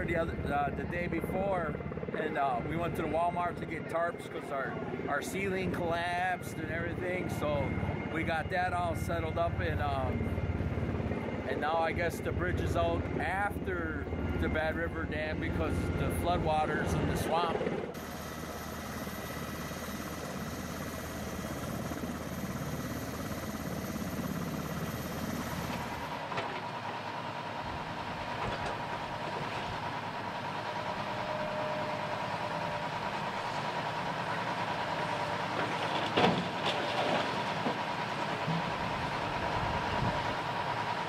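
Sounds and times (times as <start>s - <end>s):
excavator diesel engine whining: 0.0s - 41.0s
low engine drone: 0.0s - 41.0s.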